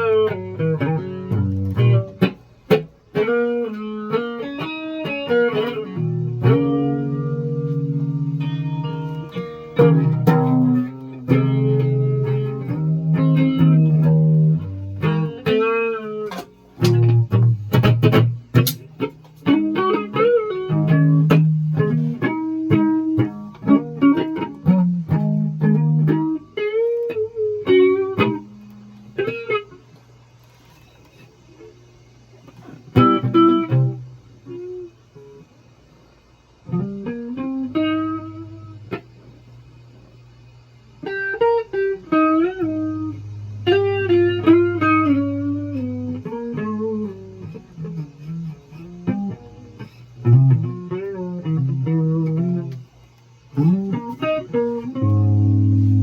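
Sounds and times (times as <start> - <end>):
electric guitar playing: 0.0 - 30.1, 30.8 - 35.5, 36.6 - 56.0.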